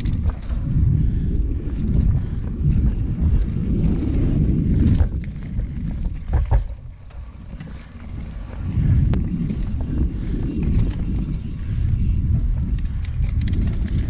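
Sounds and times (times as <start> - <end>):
bike clicks and knocks: 0.0 - 0.8, 1.6 - 11.6, 12.4 - 14.0
tyres rumbling over dirt trail: 0.0 - 14.0
wind buffeting microphone: 0.0 - 14.0.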